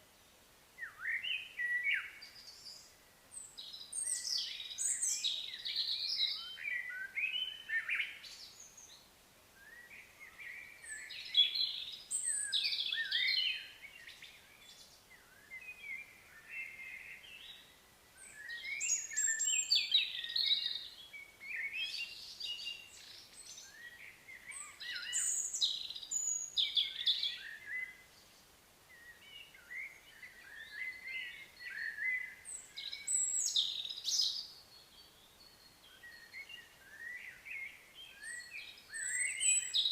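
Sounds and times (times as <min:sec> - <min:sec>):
birds singing and chattering: 0:00.8 - 0:39.9.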